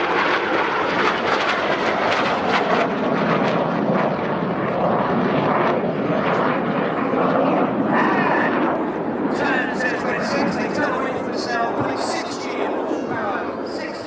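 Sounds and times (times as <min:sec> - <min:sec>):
jets flying overhead: 0:00.0 - 0:14.0.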